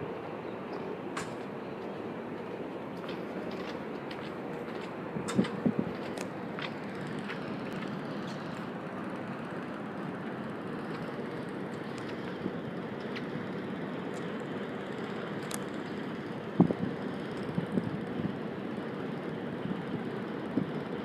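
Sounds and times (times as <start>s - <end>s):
ship machinery: 0.0s - 21.0s.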